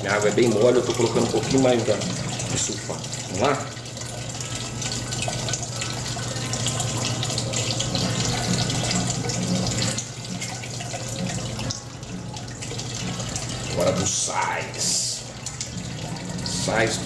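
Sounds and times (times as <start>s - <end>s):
steady low pump hum: 0.0s - 17.0s
water splashing into kettle: 0.0s - 17.0s.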